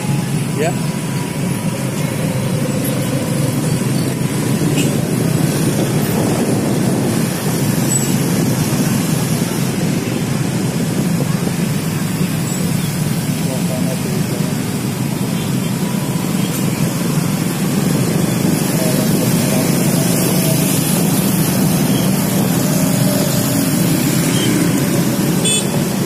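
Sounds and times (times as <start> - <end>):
dense road traffic rumble: 0.0 - 26.0.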